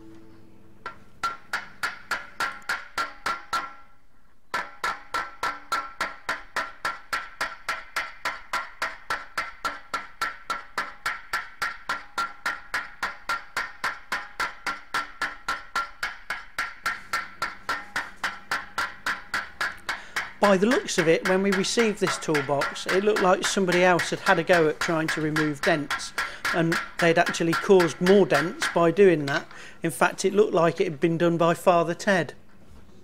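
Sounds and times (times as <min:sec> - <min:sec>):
hammer blows on sheet metal: 0:00.8 - 0:03.9, 0:04.5 - 0:31.0.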